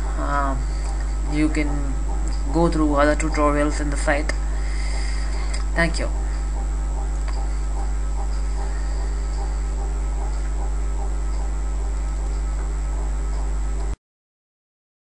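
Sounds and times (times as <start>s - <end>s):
loud electrical mains hum: 0.0s - 14.0s.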